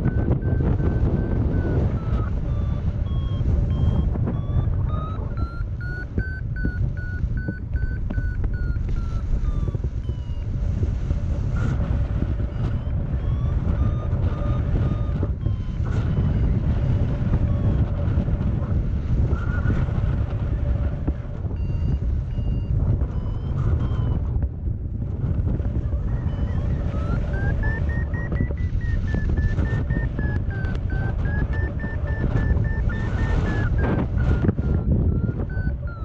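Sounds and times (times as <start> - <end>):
variometer beeping: 0.0 - 36.0
wind rumble on microphone: 0.0 - 36.0.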